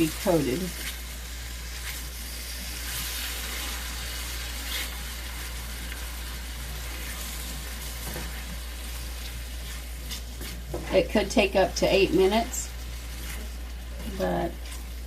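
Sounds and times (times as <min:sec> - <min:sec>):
glaze sizzling in a skillet: 0:00.0 - 0:15.0.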